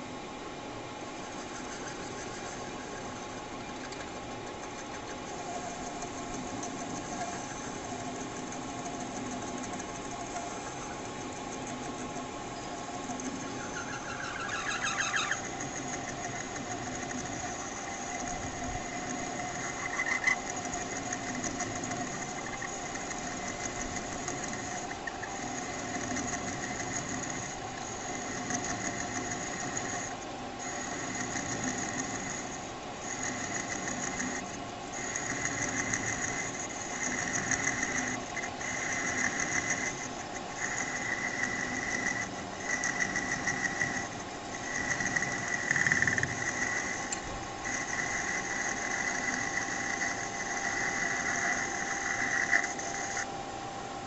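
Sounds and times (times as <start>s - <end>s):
metal lathe whining: 0.0s - 53.3s.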